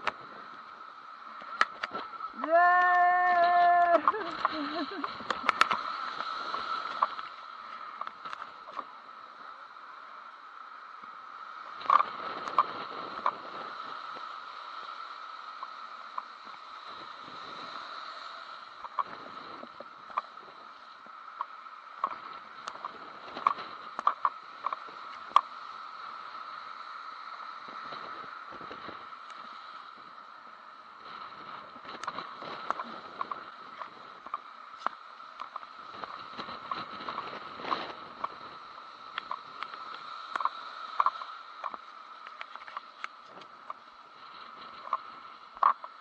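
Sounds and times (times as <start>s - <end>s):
muffled surf: 0.0s - 46.0s
muffled wind: 0.0s - 46.0s.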